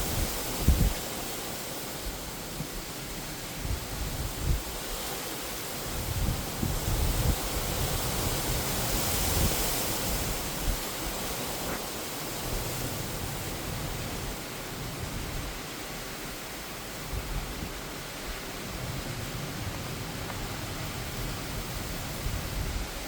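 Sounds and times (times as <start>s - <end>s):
wind buffeting microphone: 0.0s - 1.2s, 2.0s - 23.0s
heavy rain hiss: 0.0s - 23.0s.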